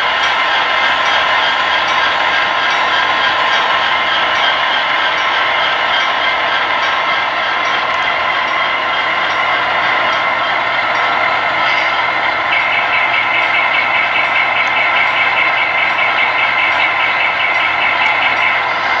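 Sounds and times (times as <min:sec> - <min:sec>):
model diesel locomotive idling: 0:00.0 - 0:19.0.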